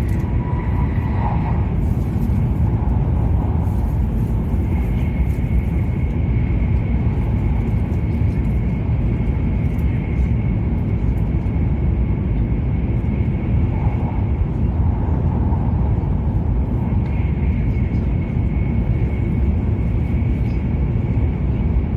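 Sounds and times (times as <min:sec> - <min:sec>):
train running noise rumble: 0:00.0 - 0:21.9.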